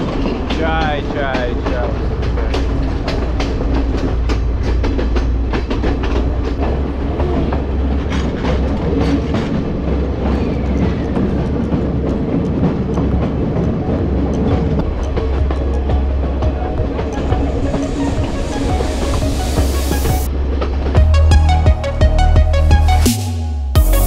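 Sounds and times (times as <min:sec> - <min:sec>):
wheels clicking over rail joints: 0:00.0 - 0:19.6, 0:20.2 - 0:21.0
train carriage rumble: 0:00.0 - 0:22.0.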